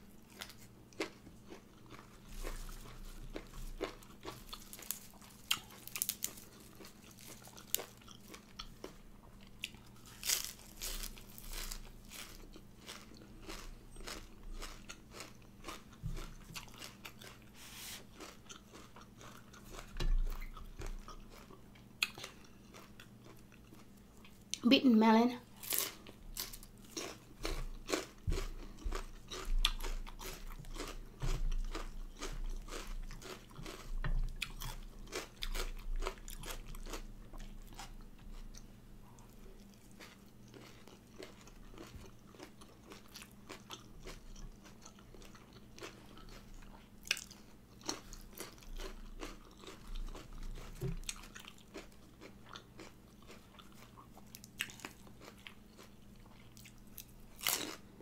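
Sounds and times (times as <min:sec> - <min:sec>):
person chewing crunchy vegetables: 0:00.0 - 0:24.6, 0:25.5 - 0:58.0
faint low hum: 0:00.0 - 0:58.0.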